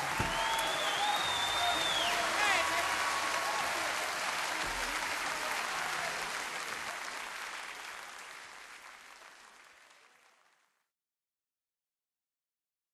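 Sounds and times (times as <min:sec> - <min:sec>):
audience applause: 0:00.0 - 0:10.9.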